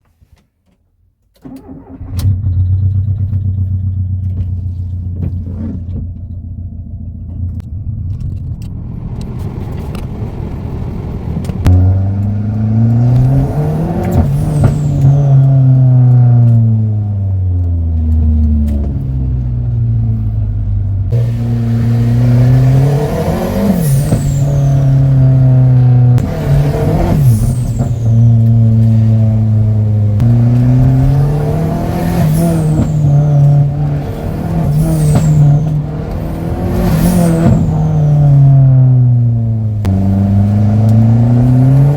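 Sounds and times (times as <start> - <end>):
car engine idling and revving: 1.4 - 41.9.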